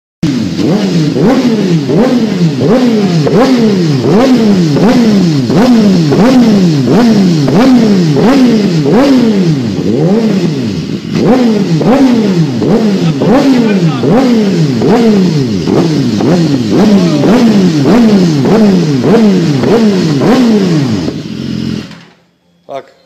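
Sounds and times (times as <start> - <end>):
motorcycle engine revving: 0.2 - 22.3.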